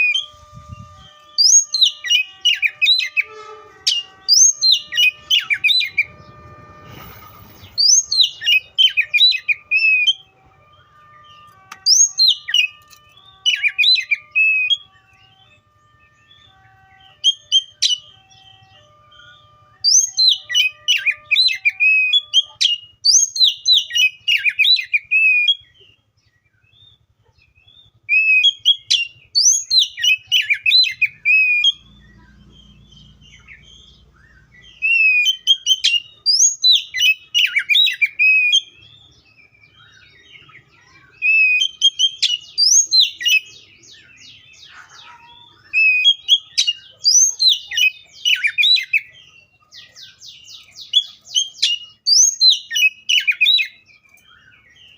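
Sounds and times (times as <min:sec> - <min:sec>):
bird singing whistled notes: 0:00.0 - 0:54.9.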